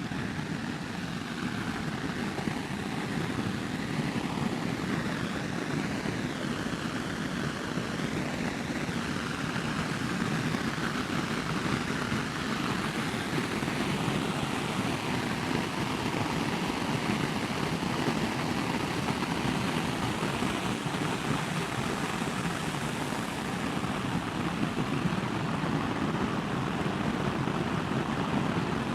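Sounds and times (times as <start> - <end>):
wind and road noise: 0.0 - 28.9.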